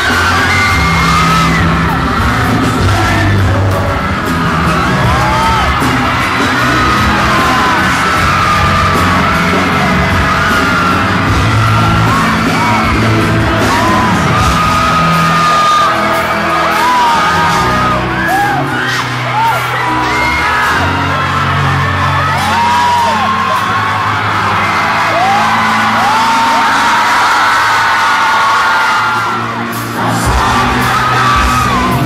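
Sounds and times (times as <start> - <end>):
crowd yelling and singing along: 0.0 - 32.0
live pop band and singers: 0.0 - 32.0.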